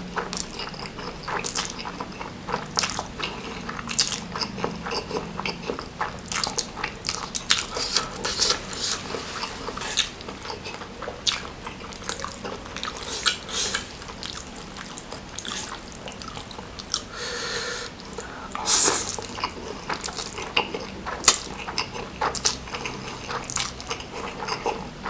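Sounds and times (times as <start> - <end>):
person chewing noodles: 0.0 - 25.0.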